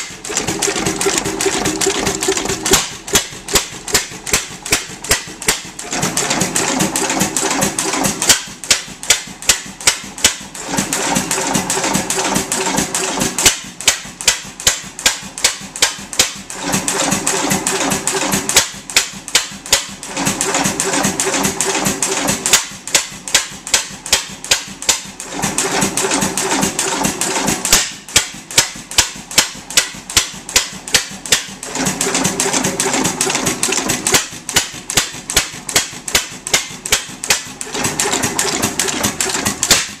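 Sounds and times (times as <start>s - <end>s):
gas engine running: 0.0s - 40.0s.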